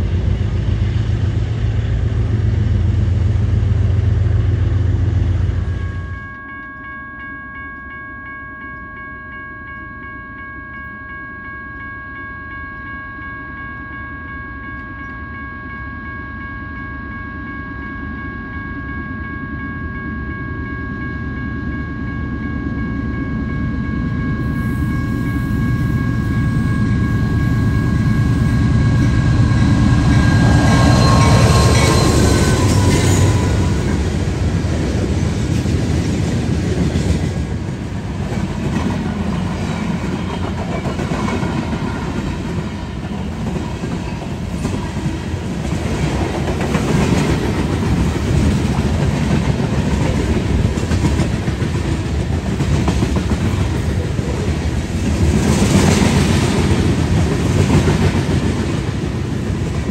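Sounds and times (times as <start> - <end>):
locomotive high whine: 0.0 - 59.9
train low rumble: 0.0 - 59.9.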